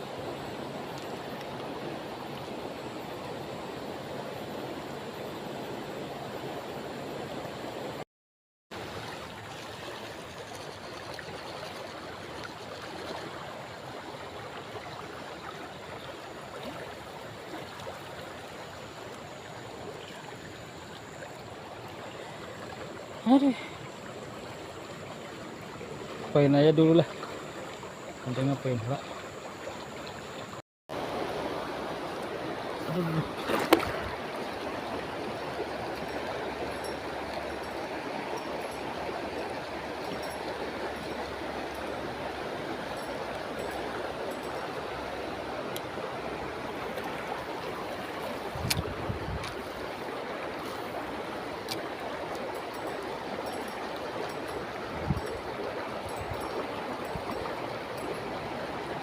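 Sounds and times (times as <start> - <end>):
flowing water rushing: 0.0 - 8.0, 8.7 - 59.0.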